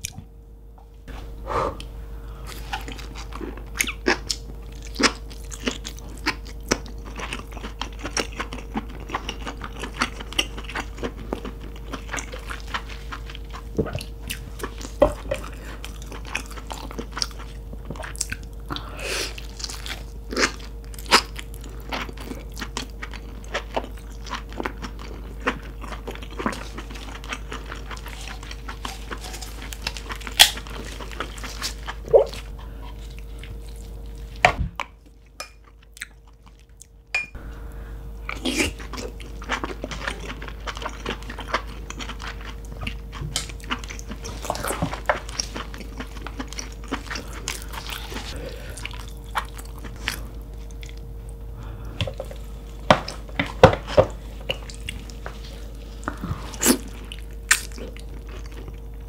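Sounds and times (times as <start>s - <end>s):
steady low hum: 0.0s - 59.0s
chewing with wet mouth clicks: 2.5s - 18.8s, 19.4s - 37.0s, 38.2s - 51.0s, 54.4s - 59.0s.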